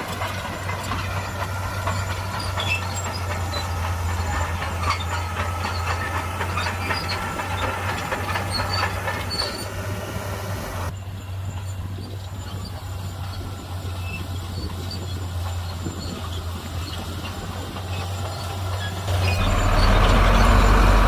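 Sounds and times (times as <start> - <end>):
bulldozer diesel engine running: 0.0 - 21.0
steel tracks clanking and squeaking: 0.0 - 21.0.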